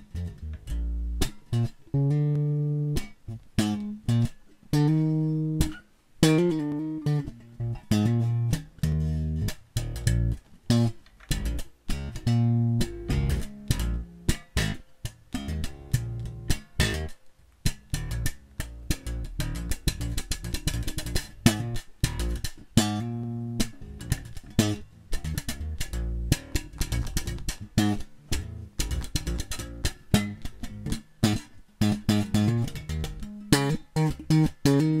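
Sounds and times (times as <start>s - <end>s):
electric bass plucked notes: 0.0s - 35.0s.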